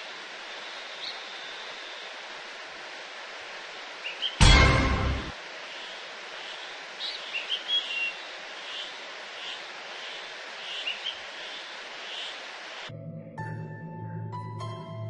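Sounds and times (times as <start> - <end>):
steady outdoor hiss: 0.0 - 12.9.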